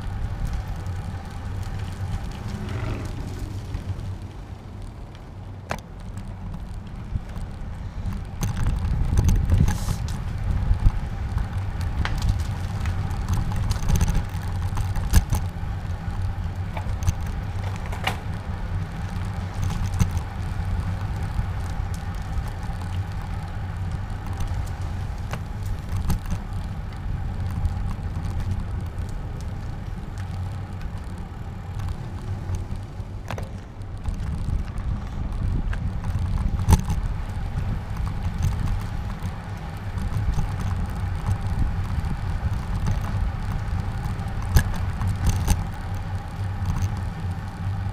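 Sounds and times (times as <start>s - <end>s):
bike clicks and rattles: 0.0s - 47.9s
wind rumble on microphone: 0.0s - 47.9s.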